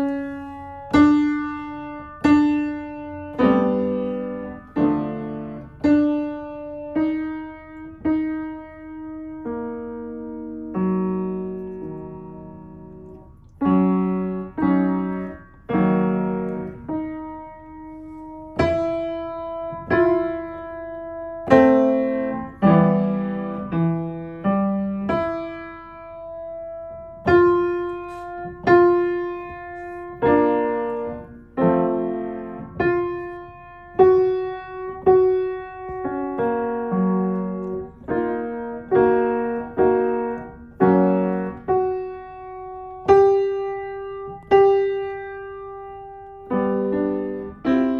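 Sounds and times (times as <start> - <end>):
piano notes struck slowly: 0.0 - 47.9.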